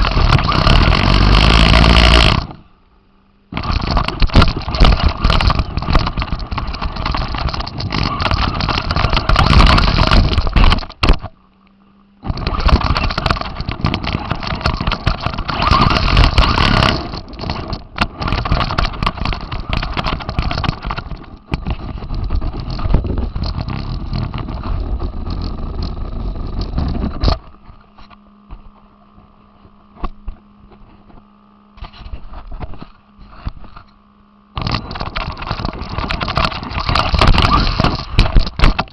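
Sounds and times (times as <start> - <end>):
rattling drivetrain and tyre noise: 0.0 - 2.6, 3.5 - 11.3, 12.2 - 27.5, 33.3 - 38.9
faint steady hum: 0.0 - 38.9.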